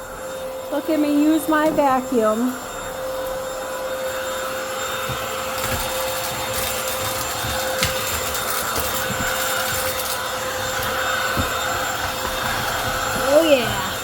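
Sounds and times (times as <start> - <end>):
vacuum motor whine: 0.0 - 14.0.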